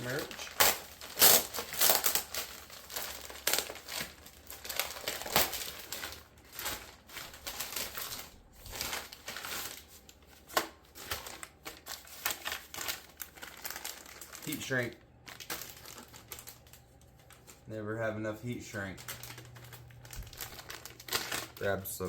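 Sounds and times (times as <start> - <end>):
packaging crinkling: 0.0 - 17.7, 18.4 - 22.0.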